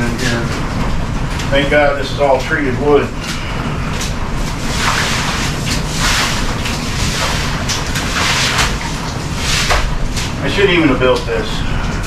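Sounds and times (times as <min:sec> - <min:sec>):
heavy rain: 0:00.0 - 0:12.0
broom swishing water on floor: 0:01.5 - 0:11.5.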